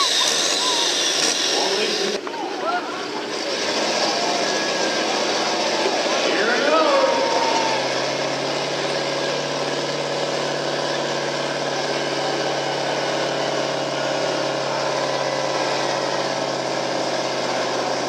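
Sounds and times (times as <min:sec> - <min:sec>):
pickup engine idling: 0:00.0 - 0:18.0.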